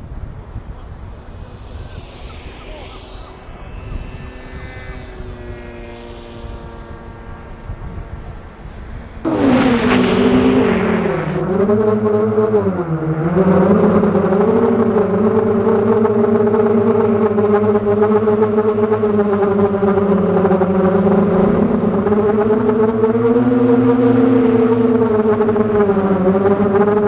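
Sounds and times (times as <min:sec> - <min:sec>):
distant jet flying over: 0:00.0 - 0:27.0
quadcopter motors whining: 0:00.0 - 0:27.0.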